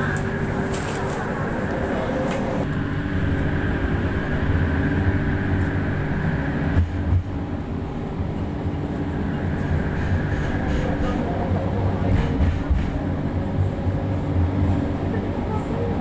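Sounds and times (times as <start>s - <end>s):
light-rail train rumbling: 0.0s - 16.0s
train motor hum: 0.0s - 16.0s.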